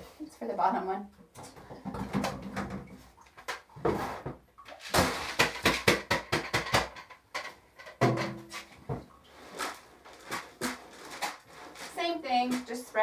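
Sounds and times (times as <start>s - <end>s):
plastic tub knocks and scrapes: 1.4s - 13.0s.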